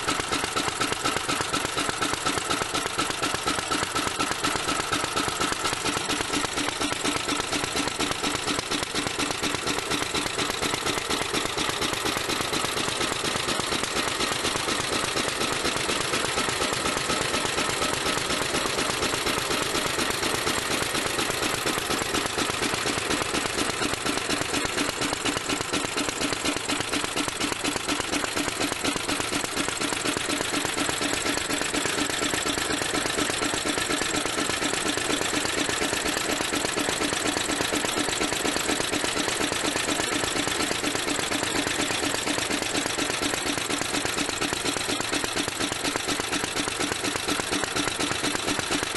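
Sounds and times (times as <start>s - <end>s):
stationary engine running: 0.0s - 48.9s.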